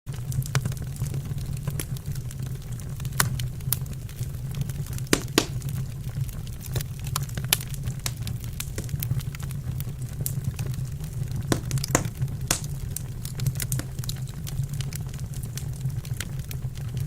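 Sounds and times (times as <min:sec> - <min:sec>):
burning wood crackling and popping: 0:00.1 - 0:17.0.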